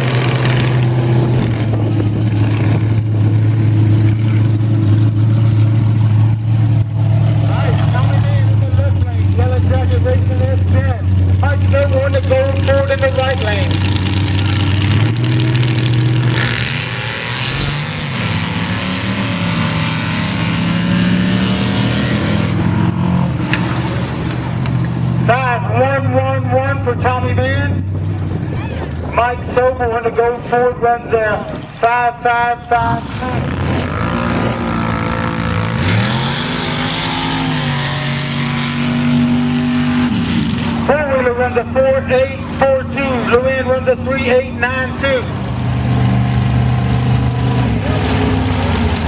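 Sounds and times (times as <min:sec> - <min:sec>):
drag racing engines revving: 0:00.0 - 0:49.0.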